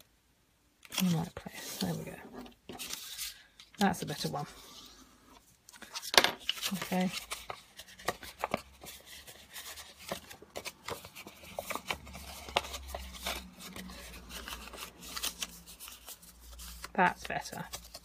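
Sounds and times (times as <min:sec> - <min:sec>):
paper folding and crackling: 0:00.8 - 0:18.0.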